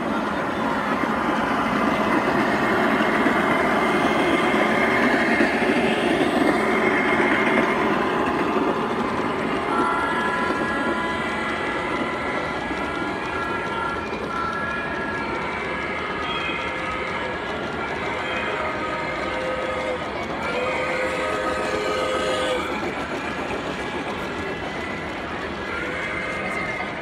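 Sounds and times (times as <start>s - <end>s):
model train rolling: 0.0s - 27.0s.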